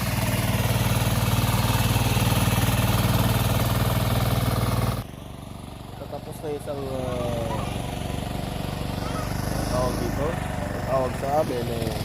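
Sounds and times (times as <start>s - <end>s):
hand tractor engine running: 0.0s - 12.0s.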